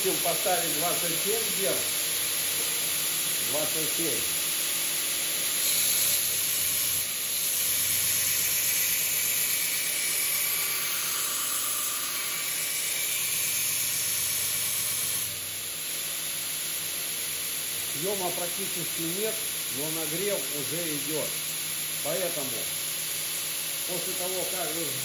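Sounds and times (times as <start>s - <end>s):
belt grinder grinding hiss: 0.0s - 25.0s.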